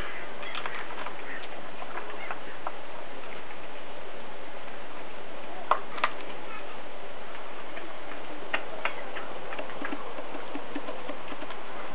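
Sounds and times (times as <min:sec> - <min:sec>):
steady hiss: 0:00.0 - 0:11.9.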